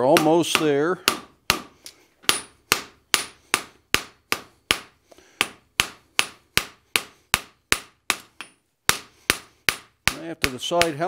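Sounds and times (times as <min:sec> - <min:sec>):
hammer striking steel on anvil: 0:00.0 - 0:11.0.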